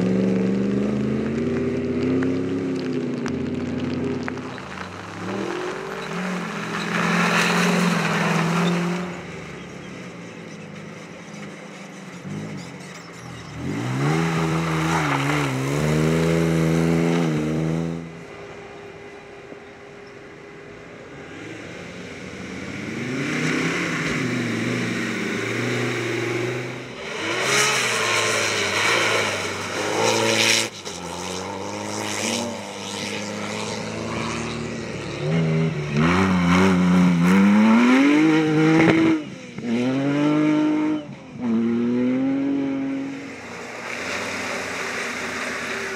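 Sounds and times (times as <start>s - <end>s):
off-road car engines revving: 0.0s - 45.9s.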